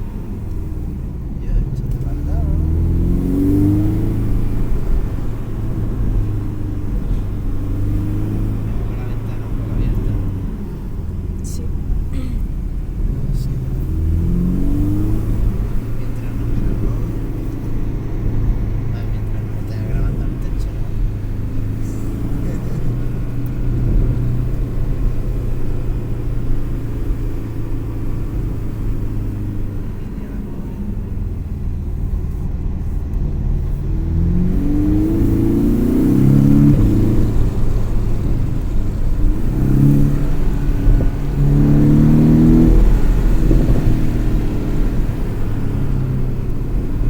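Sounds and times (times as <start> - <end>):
car engine pulling steadily: 0.0 - 47.0
low road rumble: 0.0 - 47.0.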